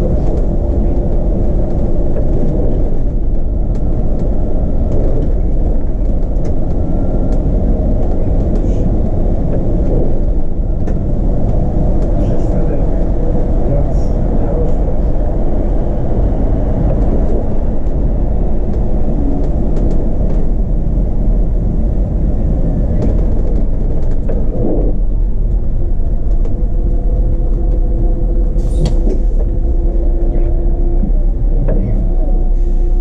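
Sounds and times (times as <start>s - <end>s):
bus engine rumble: 0.0s - 33.0s
multi-tone hum: 0.0s - 33.0s.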